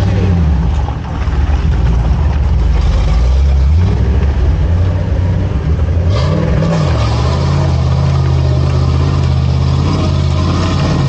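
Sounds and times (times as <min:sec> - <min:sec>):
car engine running and revving: 0:00.0 - 0:11.0.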